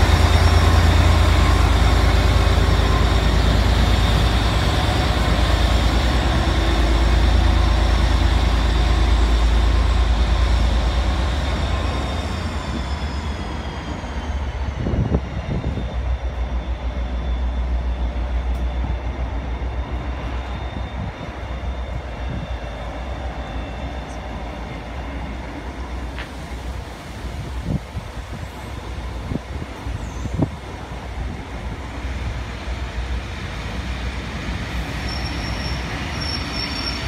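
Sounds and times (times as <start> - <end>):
diesel locomotive engine throbbing: 0.0 - 37.0.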